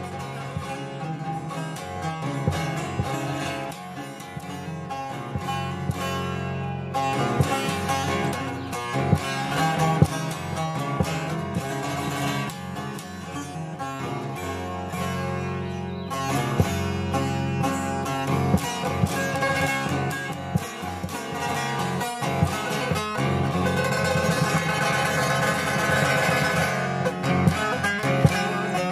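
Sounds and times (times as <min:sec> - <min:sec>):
long-necked lute picked melody: 0:00.0 - 0:28.9.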